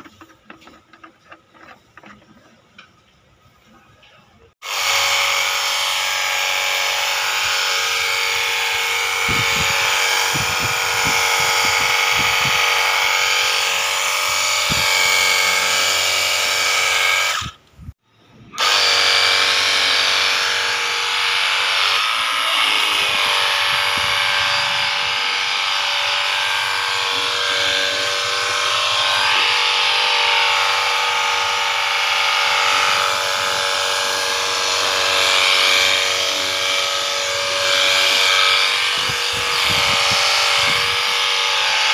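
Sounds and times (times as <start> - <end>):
electric pump motor whine: 4.6 - 17.6, 18.6 - 41.9.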